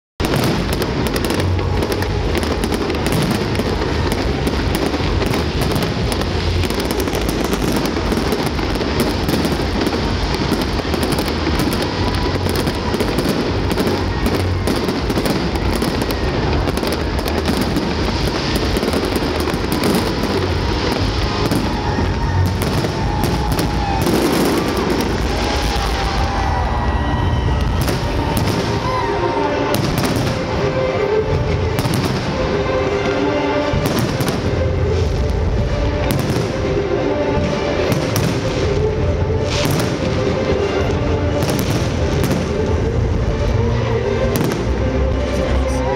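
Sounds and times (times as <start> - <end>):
fireworks bursting: 0.2 - 45.9.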